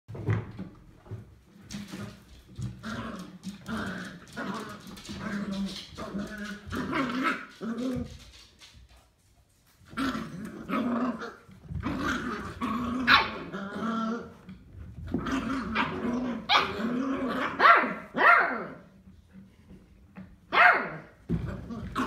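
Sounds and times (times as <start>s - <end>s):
puppies play-growling: 0.2s - 20.4s, 21.1s - 22.0s.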